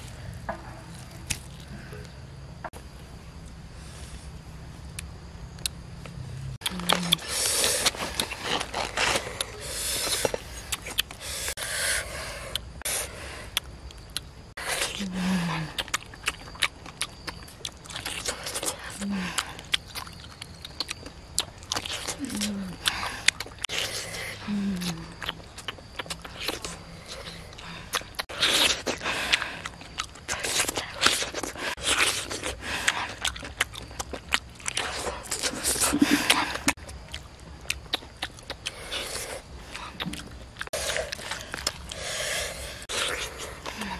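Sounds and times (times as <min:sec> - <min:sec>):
crunchy bites and chewing: 0:00.0 - 0:02.6, 0:04.8 - 0:43.9.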